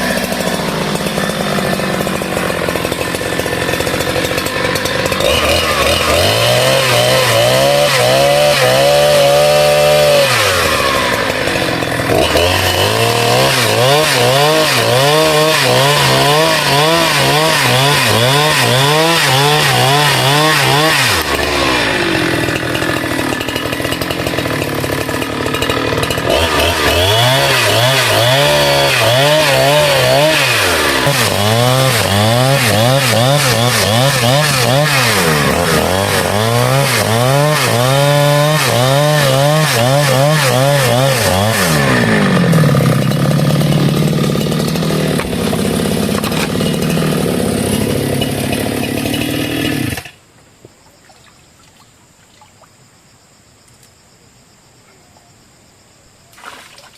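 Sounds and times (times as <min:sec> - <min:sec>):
chainsaw cutting bamboo: 0:00.0 - 0:50.2.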